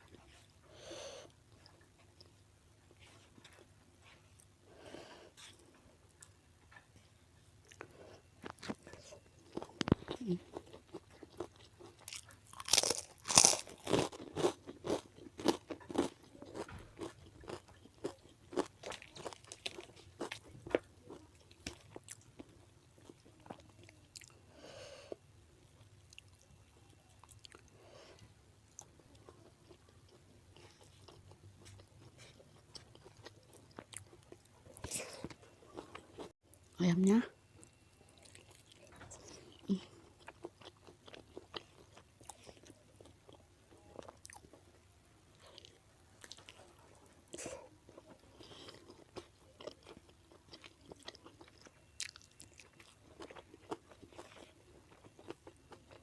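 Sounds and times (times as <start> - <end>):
person chewing crunchy food: 7.6 - 24.4, 25.1 - 36.3, 37.6 - 56.0.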